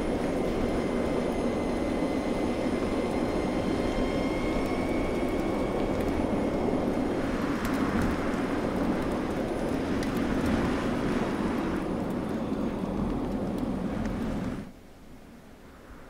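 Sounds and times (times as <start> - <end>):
tyre and road noise: 0.0 - 14.8
faint high electric whine: 0.0 - 16.0.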